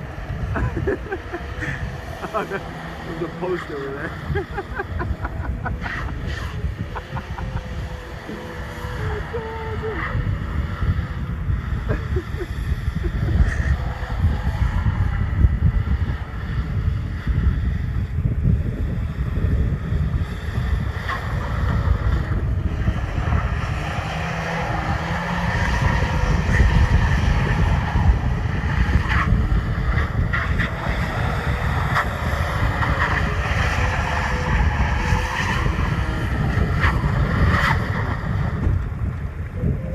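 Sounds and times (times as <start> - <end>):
small truck engine revving: 0.0 - 39.9
wind buffeting microphone: 0.0 - 39.9.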